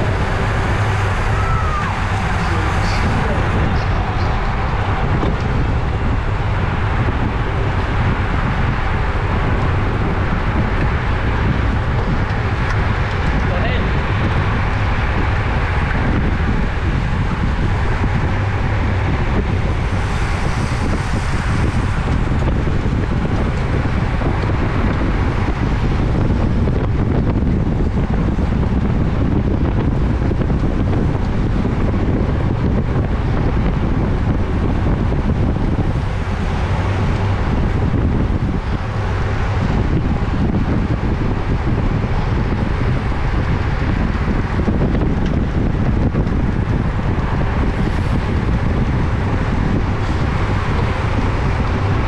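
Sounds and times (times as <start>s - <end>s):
wind rush on microphone: 0.0s - 52.0s.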